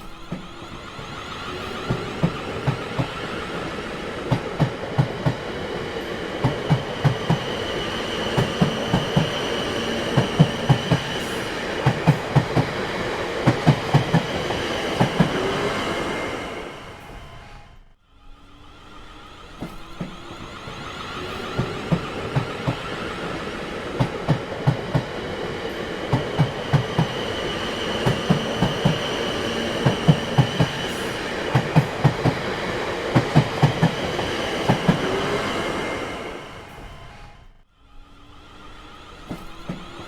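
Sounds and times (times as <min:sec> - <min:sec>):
train wheels clacking over rail joints: 0:00.0 - 0:16.0, 0:19.4 - 0:37.0, 0:39.2 - 0:40.0
train rumble: 0:00.0 - 0:40.0.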